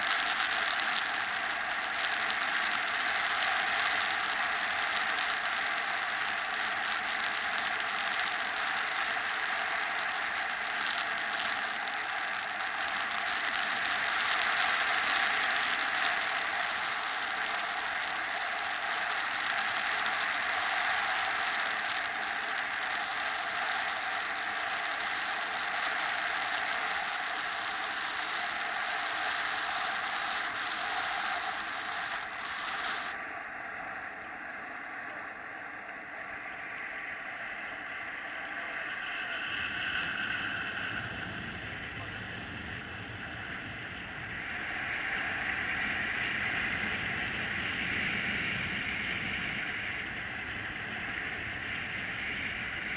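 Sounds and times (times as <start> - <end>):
wind rushing over camera: 0.0 - 52.9.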